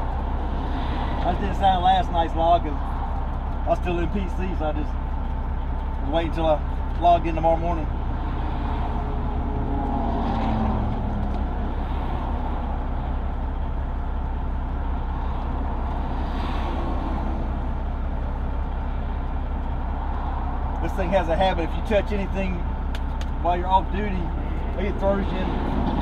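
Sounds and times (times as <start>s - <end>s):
diesel truck engine idling: 0.0s - 26.0s
traffic passing: 0.0s - 26.0s.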